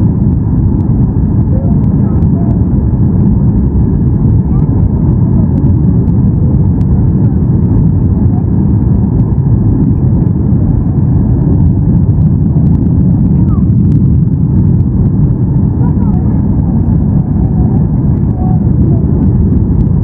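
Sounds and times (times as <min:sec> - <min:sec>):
airflow over fuselage: 0:00.0 - 0:20.0
jet engine low rumble: 0:00.0 - 0:20.0.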